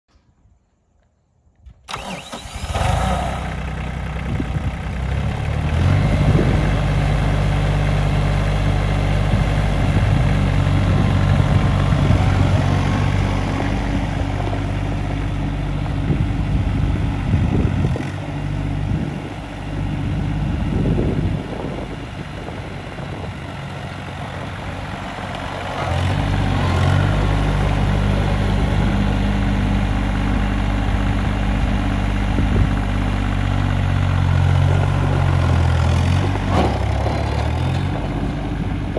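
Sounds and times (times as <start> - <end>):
tractor diesel engine running: 1.9 - 38.9.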